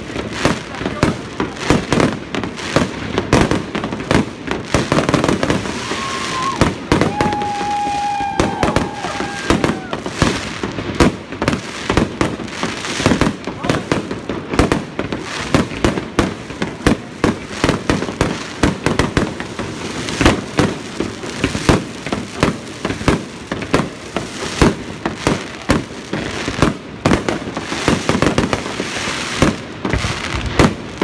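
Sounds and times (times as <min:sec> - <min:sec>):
fireworks bangs: 0:00.0 - 0:31.0
fireworks crackling: 0:00.0 - 0:31.0.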